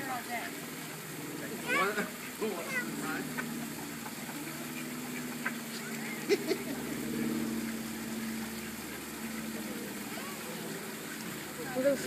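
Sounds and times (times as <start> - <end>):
low mechanical hum: 0.7 - 12.0.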